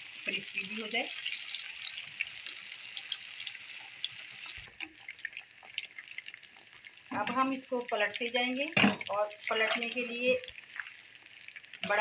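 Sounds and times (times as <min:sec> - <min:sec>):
meat deep-frying in oil: 0:00.0 - 0:12.0.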